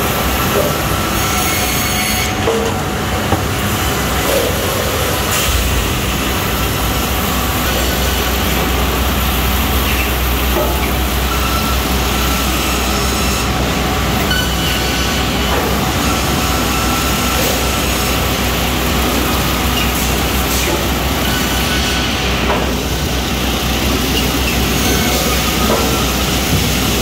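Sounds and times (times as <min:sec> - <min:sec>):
constant low hum: 0:00.0 - 0:27.0
conveyor machinery running: 0:00.0 - 0:27.0.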